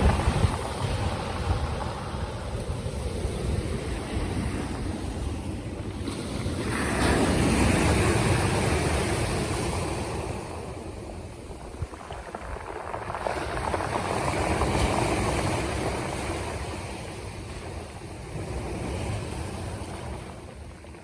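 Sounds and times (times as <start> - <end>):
surf washing on shore: 0.0 - 21.0
wind rumbling on microphone: 0.0 - 21.0.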